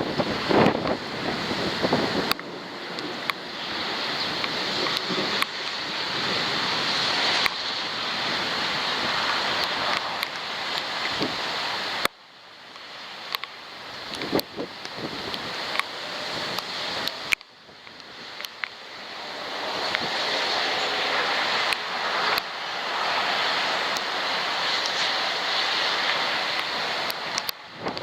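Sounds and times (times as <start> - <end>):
gusting wind on microphone: 0.0 - 12.1, 13.0 - 28.0
raindrops ticking on camera: 0.0 - 19.0, 19.6 - 28.0
heavy rain: 0.0 - 28.0.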